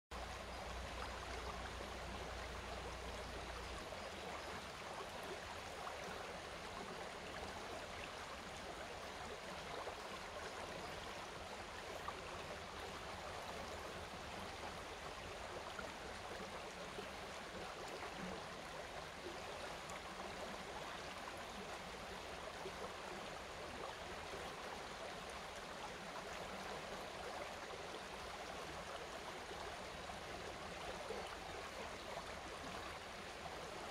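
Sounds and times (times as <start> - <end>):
stream flowing over stones: 0.1 - 33.9.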